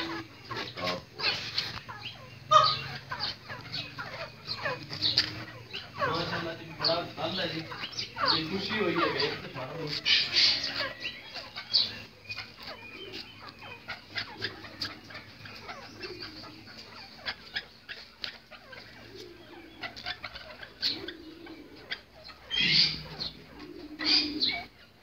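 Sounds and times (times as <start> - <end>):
birds chirping: 0.0 - 25.0
pigeons cooing: 0.0 - 25.0.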